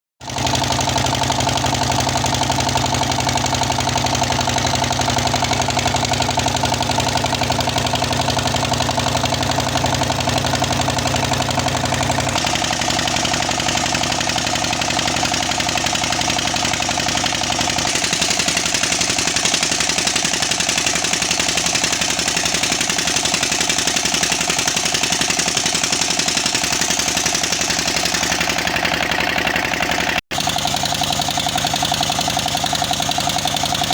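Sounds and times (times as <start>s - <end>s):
diesel engine knocking: 0.2s - 33.9s.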